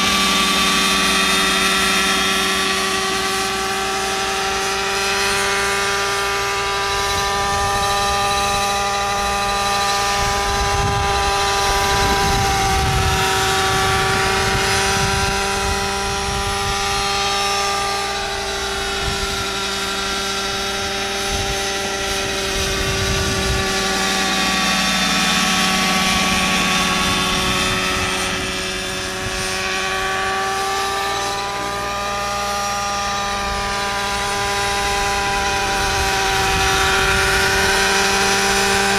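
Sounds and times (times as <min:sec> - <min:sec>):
model helicopter engine: 0:00.0 - 0:38.9
rotor whirr: 0:00.0 - 0:38.9.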